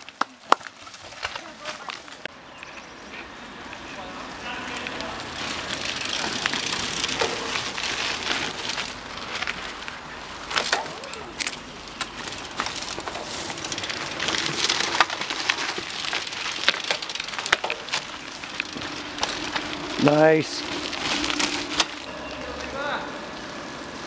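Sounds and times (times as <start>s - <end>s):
bike clicks and rattles: 0.0s - 2.8s, 4.6s - 22.8s
bike tyres crunching over dirt: 0.0s - 24.0s.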